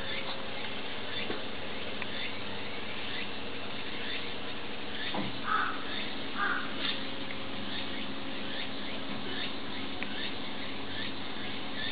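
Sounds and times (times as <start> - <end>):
harsh animal calls: 2.1 - 11.9.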